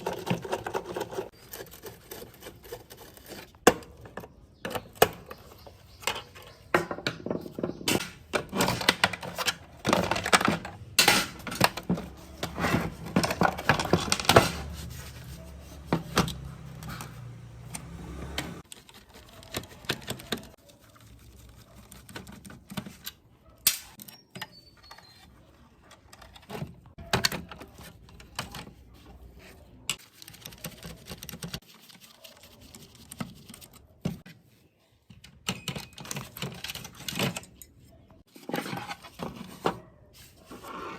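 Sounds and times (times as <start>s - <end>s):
small parts and tools rattling: 0.0s - 34.3s, 35.0s - 39.8s.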